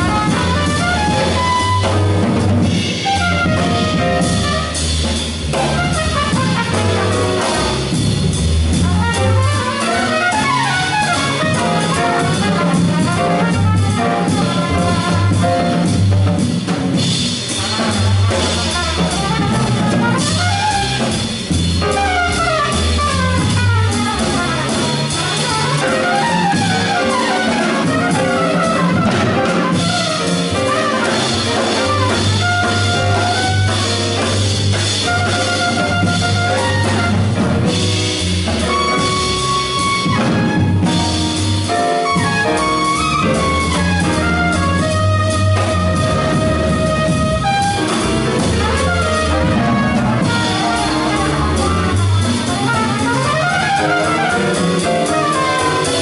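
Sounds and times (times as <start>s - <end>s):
trumpet playing fast runs: 0.0s - 7.9s, 8.7s - 16.1s, 17.6s - 56.0s
drum kit with ride cymbal: 0.0s - 56.0s
grand piano: 0.0s - 56.0s
walking upright bass: 0.0s - 56.0s.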